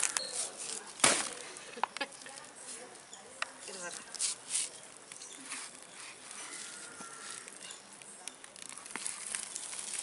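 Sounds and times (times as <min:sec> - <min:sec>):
fruit skin crackling and tearing: 0:00.0 - 0:02.7, 0:03.4 - 0:10.0.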